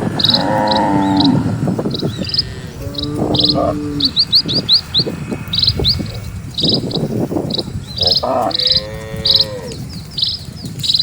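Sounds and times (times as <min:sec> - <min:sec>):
cattle hooves clopping on road: 0:00.0 - 0:11.0
small bird chirping: 0:00.1 - 0:11.0.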